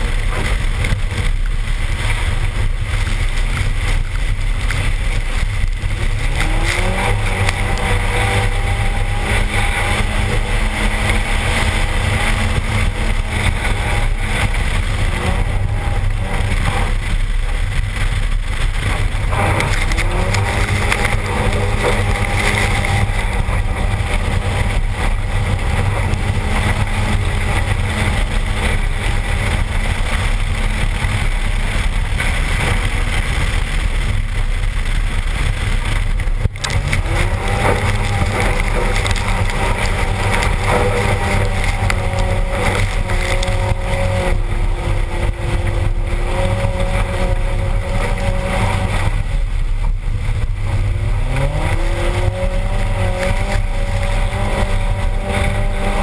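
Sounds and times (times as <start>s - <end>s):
car engine: 0.0s - 56.0s
water spraying off tyres: 0.0s - 56.0s
wind buffeting camera: 0.0s - 56.0s.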